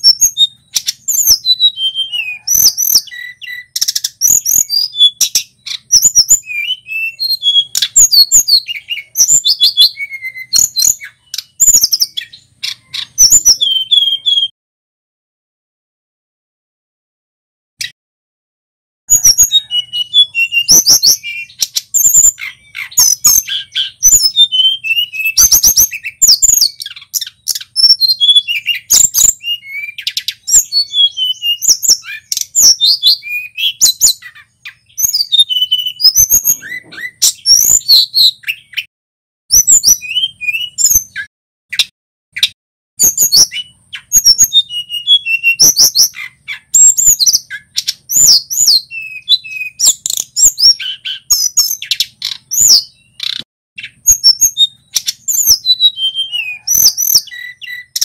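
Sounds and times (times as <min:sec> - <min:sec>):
songbird singing chirps and whistles: 0:00.0 - 0:14.6, 0:19.1 - 0:38.9, 0:39.5 - 0:58.0.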